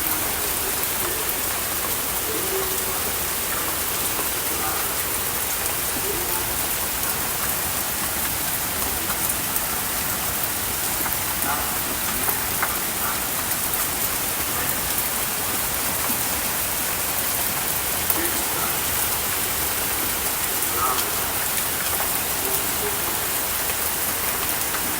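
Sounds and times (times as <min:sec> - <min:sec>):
rain drop ticks: 0:00.0 - 0:24.9
rain falling: 0:00.0 - 0:24.9.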